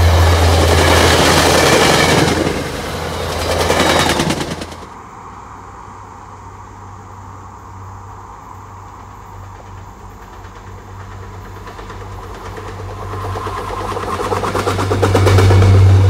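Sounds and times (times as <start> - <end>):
diesel locomotive engine hum: 0.0 - 16.0
wheel and rail noise: 0.0 - 16.0.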